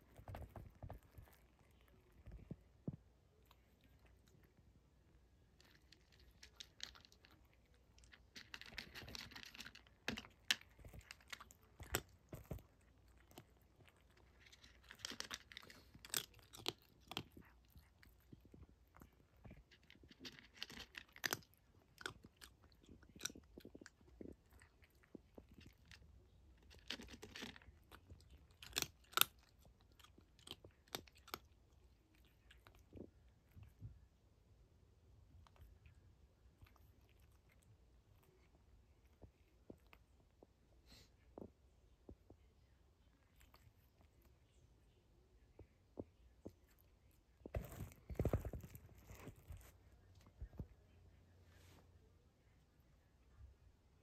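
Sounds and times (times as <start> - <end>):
cat crunching dry kibble: 0.0 - 34.2, 35.2 - 41.6, 43.0 - 44.6, 45.6 - 50.9.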